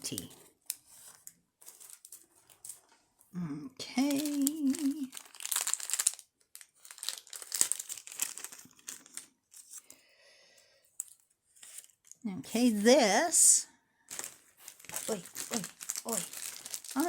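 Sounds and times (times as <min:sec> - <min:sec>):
plastic packaging crinkling: 0:00.0 - 0:03.0, 0:03.8 - 0:10.0, 0:11.0 - 0:17.0.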